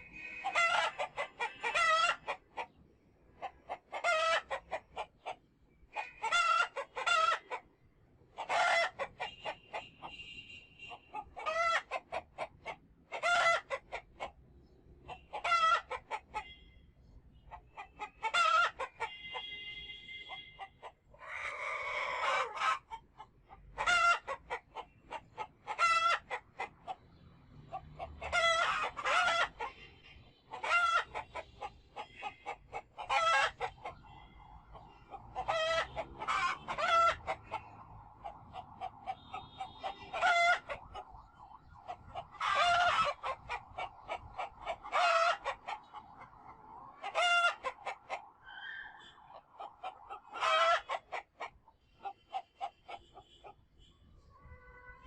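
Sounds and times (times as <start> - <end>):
chickens clucking: 0.0 - 7.7, 8.3 - 10.2, 10.9 - 16.5, 17.3 - 19.4, 20.3 - 55.0.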